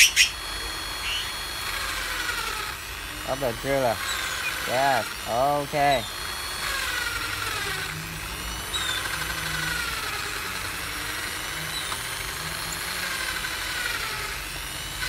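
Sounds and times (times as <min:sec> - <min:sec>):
electric drill motor whine: 0:00.0 - 0:15.0.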